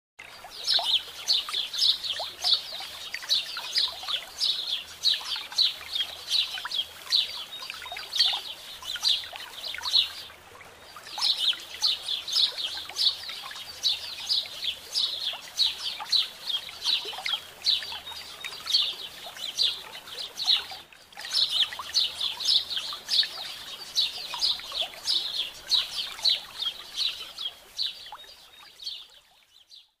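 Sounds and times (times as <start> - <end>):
small birds chirping: 0.2 - 30.0.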